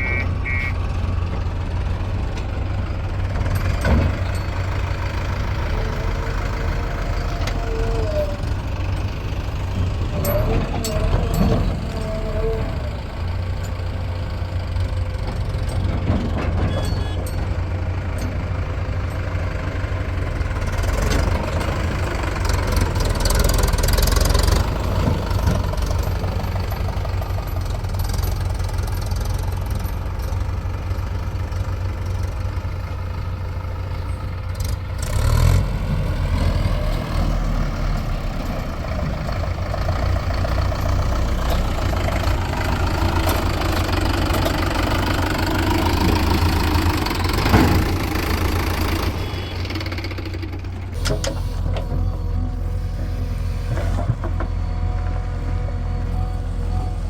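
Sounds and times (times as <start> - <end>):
heavy diesel engine knocking: 0.0 - 57.0.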